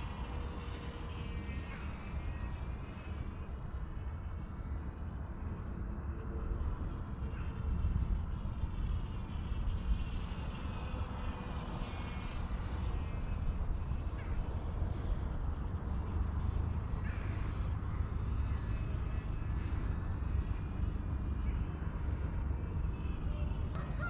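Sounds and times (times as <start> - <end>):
model airplane motor whine: 0.0 - 24.0.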